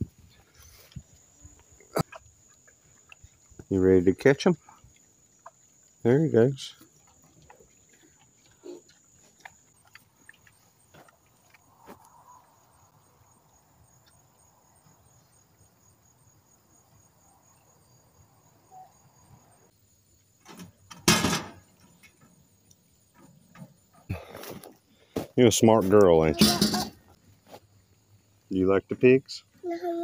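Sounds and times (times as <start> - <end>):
crickets trilling: 0.0 - 29.6.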